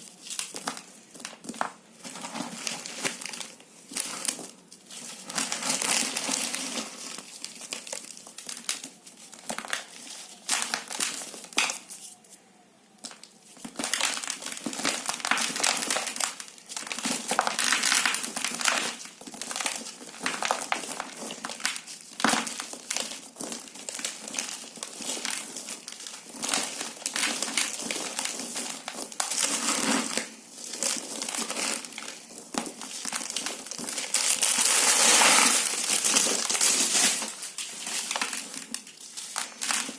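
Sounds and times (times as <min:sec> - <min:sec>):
dry material crumbling in hands: 0:00.0 - 0:12.4, 0:13.0 - 0:39.9.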